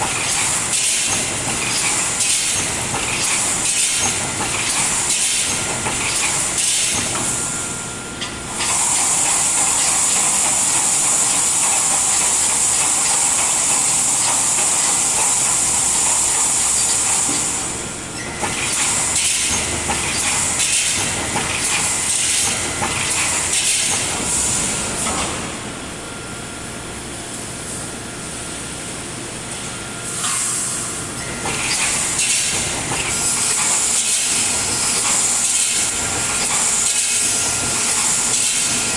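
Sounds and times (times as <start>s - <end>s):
welding machine mechanical clatter: 0.0s - 7.5s, 8.2s - 25.6s, 31.4s - 38.9s.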